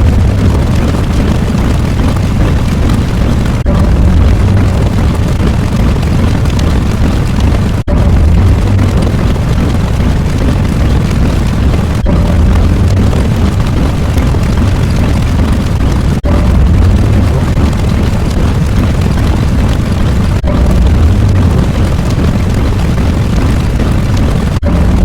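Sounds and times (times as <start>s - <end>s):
loud rumbling noise: 0.0s - 25.0s.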